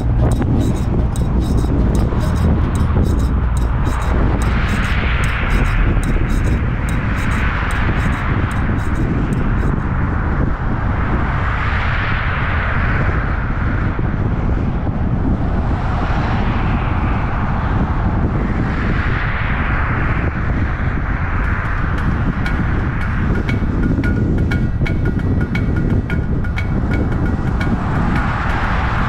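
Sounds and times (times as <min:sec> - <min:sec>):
vehicle wind and road noise: 0:00.0 - 0:29.0.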